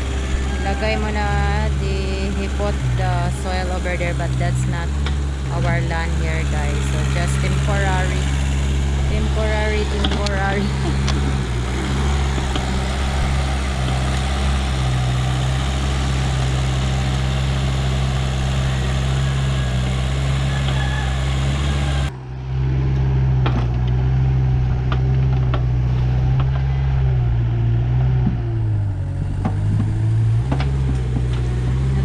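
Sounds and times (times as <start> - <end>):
backhoe diesel engine: 0.0 - 32.0.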